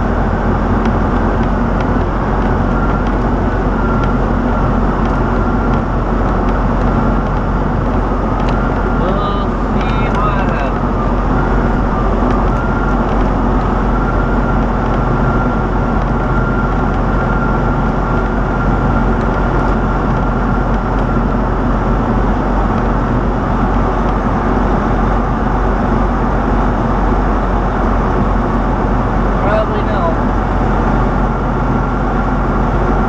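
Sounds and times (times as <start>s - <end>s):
road noise: 0.0s - 33.0s
thin steady whine: 0.0s - 33.0s
truck engine drone: 0.0s - 33.0s.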